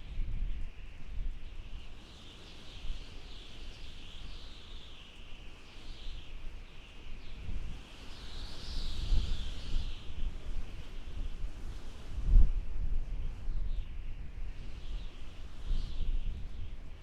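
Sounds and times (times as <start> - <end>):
wind howling and whistling: 0.0 - 17.0.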